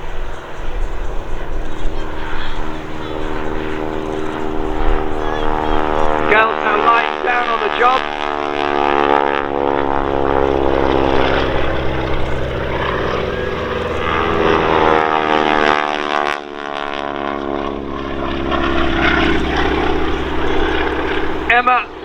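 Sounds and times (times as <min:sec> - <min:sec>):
propeller planes droning: 0:00.0 - 0:22.0.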